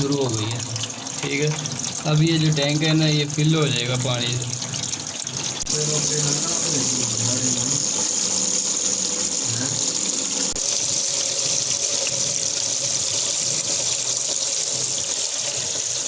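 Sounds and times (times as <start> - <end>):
toilet tank filling hiss: 0.0 - 16.0.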